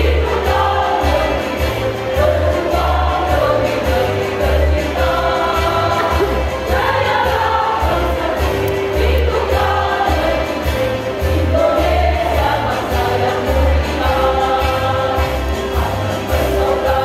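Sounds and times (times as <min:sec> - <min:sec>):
women's choir singing: 0:00.0 - 0:17.0
low bass line: 0:01.6 - 0:17.0.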